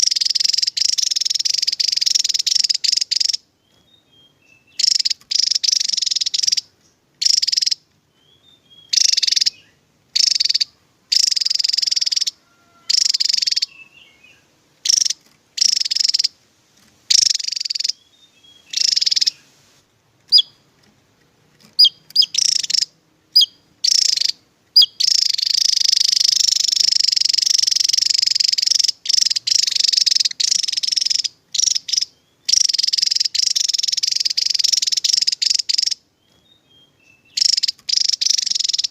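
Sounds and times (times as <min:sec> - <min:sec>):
bird twittering song: 0:00.0 - 0:20.9, 0:21.5 - 0:38.9.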